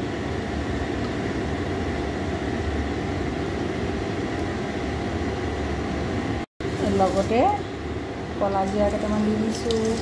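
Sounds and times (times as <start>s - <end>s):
fan humming with faint hiss: 0.0s - 10.0s.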